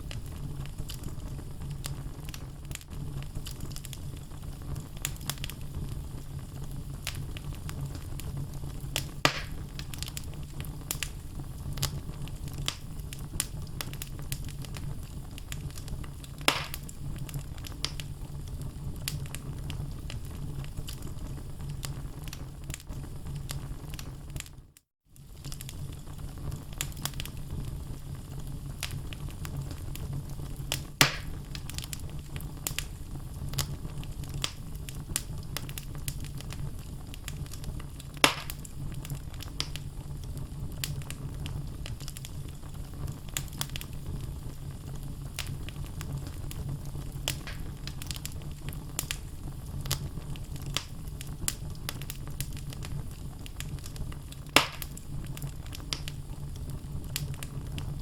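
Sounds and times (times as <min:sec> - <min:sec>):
sharp fire pops: 0:00.0 - 0:24.6, 0:25.2 - 0:58.0
logs crackling in fireplace: 0:00.0 - 0:58.0
low rumble of flame: 0:00.0 - 0:58.0.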